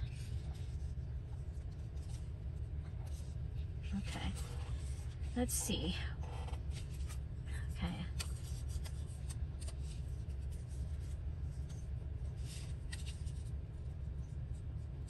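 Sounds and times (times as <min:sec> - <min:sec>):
paper rustling and scraping: 0:00.0 - 0:07.2, 0:08.0 - 0:13.9
steady low hum: 0:00.0 - 0:15.0.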